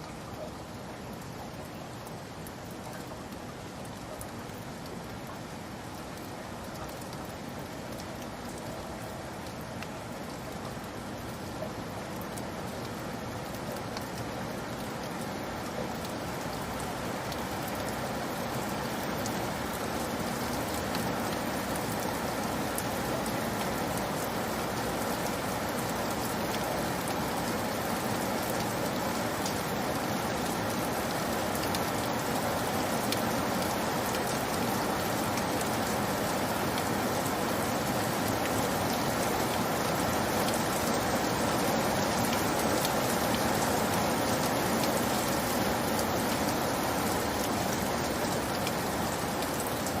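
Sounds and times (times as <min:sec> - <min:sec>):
steady rainfall: 0:00.0 - 0:50.0.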